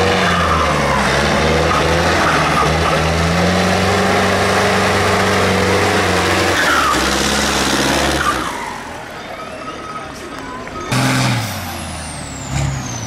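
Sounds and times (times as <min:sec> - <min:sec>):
tractor engine at high revs: 0:00.0 - 0:08.9, 0:10.8 - 0:13.0.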